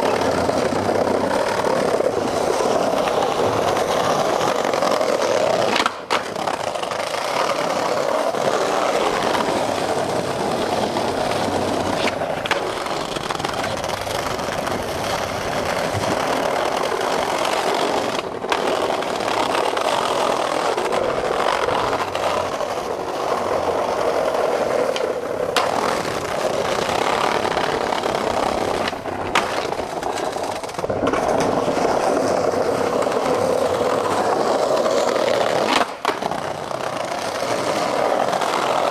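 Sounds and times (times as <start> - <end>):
skateboard wheels rolling on bricks: 0.0 - 38.9.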